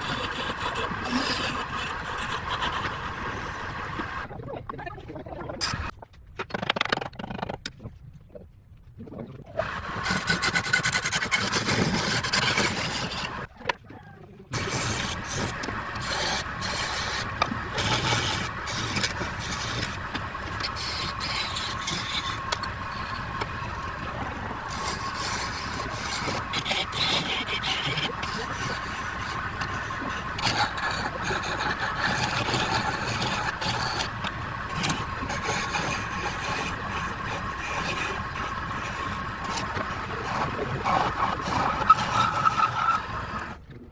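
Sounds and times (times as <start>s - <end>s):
turning tool scraping wood: 0.0s - 4.3s, 9.6s - 13.5s, 14.6s - 43.6s
wood lathe motor hum: 0.0s - 4.3s, 9.7s - 13.5s, 14.6s - 43.6s.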